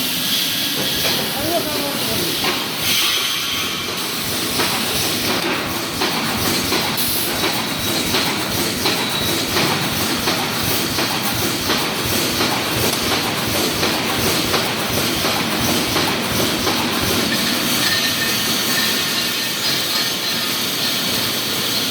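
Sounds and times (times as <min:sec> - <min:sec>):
machine hiss: 0:00.0 - 0:21.9
welding machine clattering: 0:00.8 - 0:21.9.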